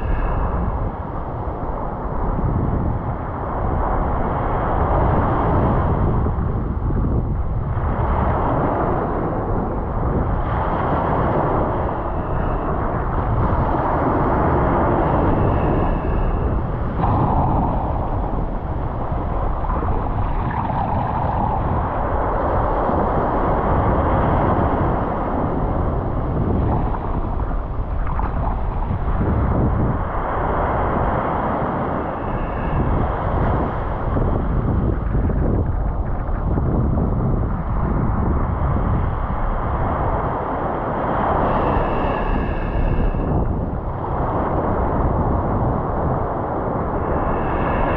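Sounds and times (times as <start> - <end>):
ocean surf on a beach: 0.0 - 47.9.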